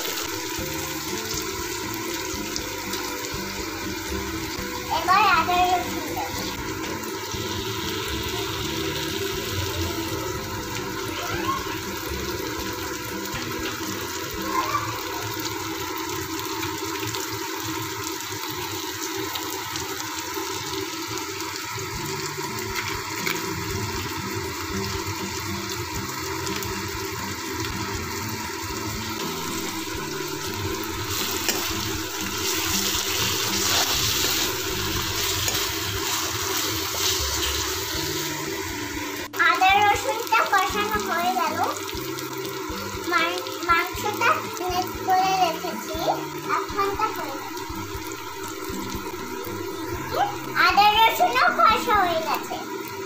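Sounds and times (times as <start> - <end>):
vegetables sizzling in hot oil: 0.0 - 53.0.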